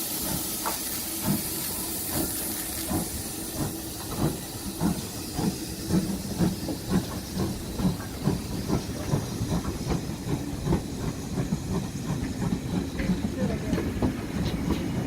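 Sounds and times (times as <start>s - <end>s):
locomotive chuffing beat: 0.0s - 15.0s
steam locomotive hissing: 0.0s - 15.0s.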